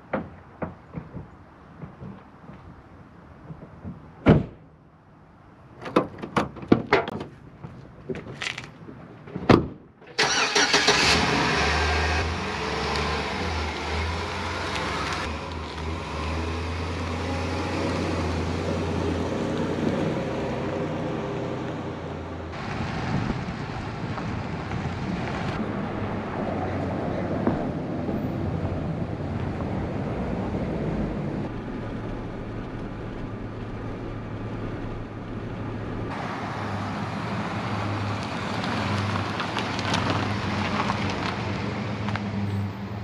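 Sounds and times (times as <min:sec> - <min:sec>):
road noise: 0:00.0 - 0:43.0.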